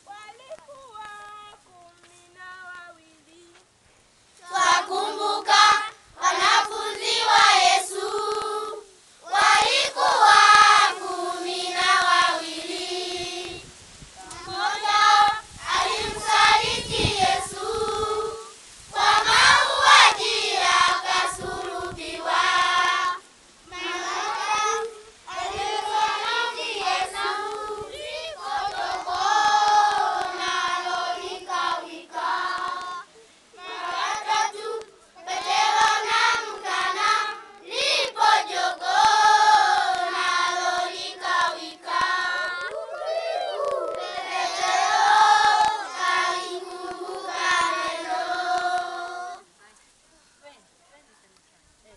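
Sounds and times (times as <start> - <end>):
children singing unaccompanied: 4.4 - 49.5.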